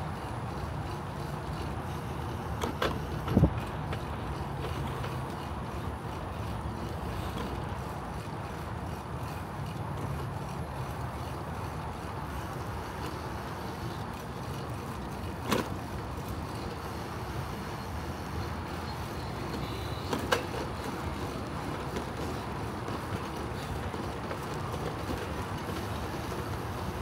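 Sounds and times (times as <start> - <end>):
bicycle rolling on asphalt: 0.0 - 27.0.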